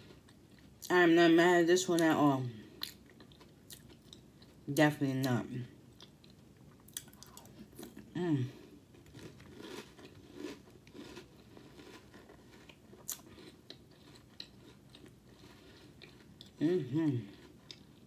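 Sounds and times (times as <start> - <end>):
person chewing crunchy cereal: 0.0 - 0.9, 2.7 - 4.7, 5.9 - 18.0.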